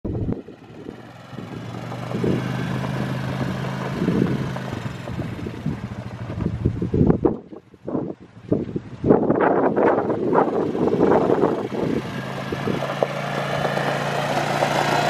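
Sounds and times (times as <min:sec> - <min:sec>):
atv engine idling: 0:00.1 - 0:15.0.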